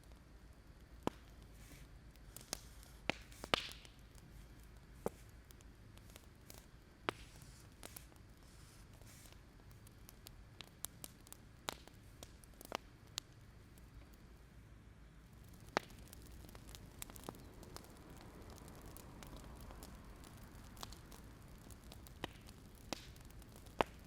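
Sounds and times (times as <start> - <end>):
fire pops and snaps: 0.0 - 14.3, 15.3 - 24.0
low fire rumble: 0.0 - 24.0.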